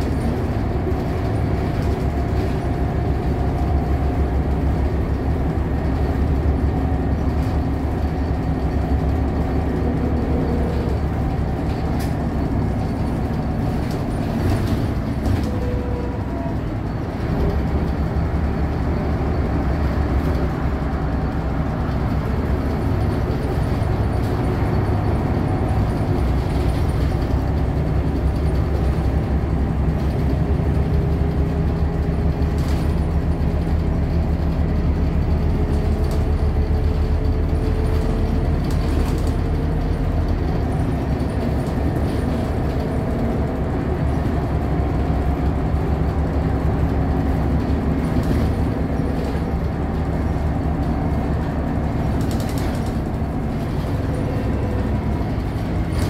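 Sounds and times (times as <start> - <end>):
bus engine drone: 0.0 - 56.0
road noise: 0.0 - 56.0.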